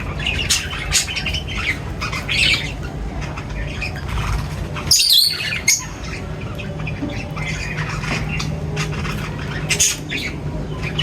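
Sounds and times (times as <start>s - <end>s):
birds chirping and squawking: 0.0s - 11.0s.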